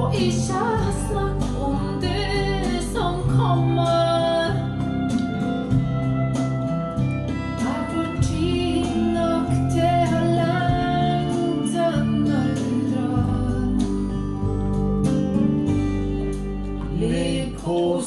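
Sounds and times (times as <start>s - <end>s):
song with female singing: 0.0s - 6.0s, 7.0s - 15.0s, 16.8s - 18.0s.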